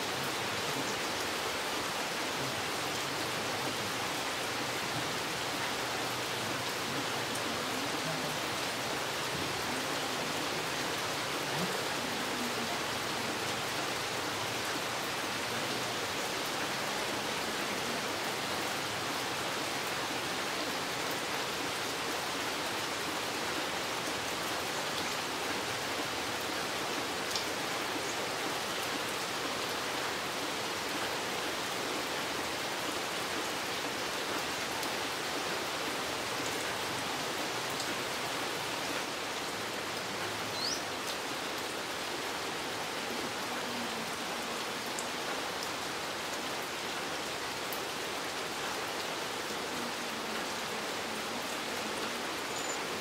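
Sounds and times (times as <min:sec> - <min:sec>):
steady rain in a forest: 0:00.0 - 0:53.0.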